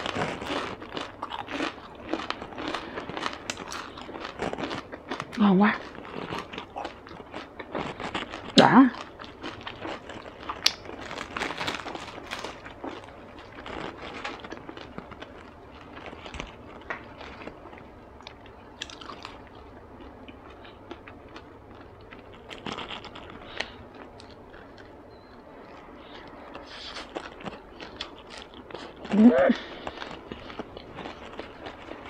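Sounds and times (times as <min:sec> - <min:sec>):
chewing and crunching food: 0:00.0 - 0:32.0.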